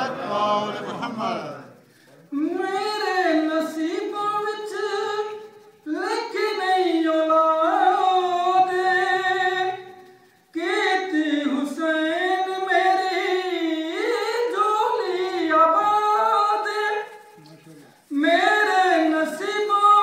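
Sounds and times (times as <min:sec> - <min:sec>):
man singing unaccompanied: 0:02.3 - 0:17.3, 0:18.1 - 0:20.0.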